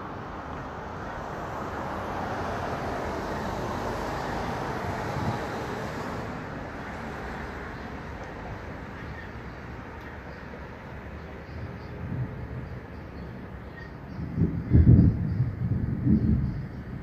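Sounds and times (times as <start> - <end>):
vehicle tyre noise passing: 0.0 - 17.0.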